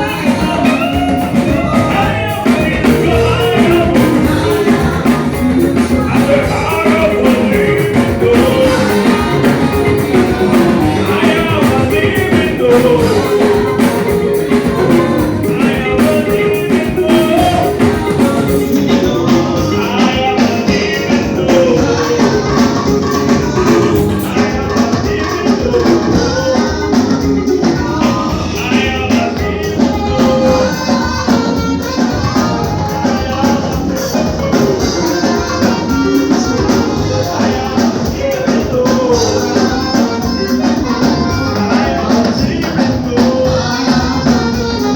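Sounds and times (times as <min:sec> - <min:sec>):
live band music: 0:00.0 - 0:44.9.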